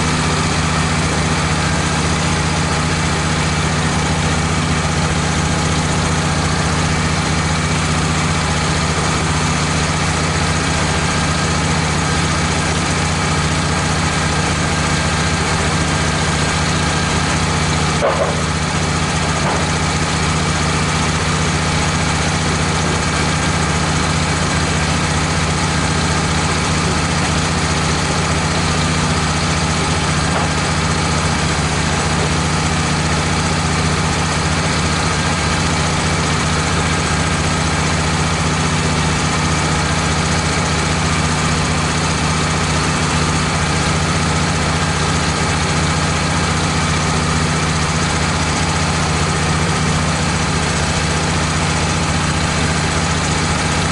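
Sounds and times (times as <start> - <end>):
band sawmill running: 0.0 - 53.9.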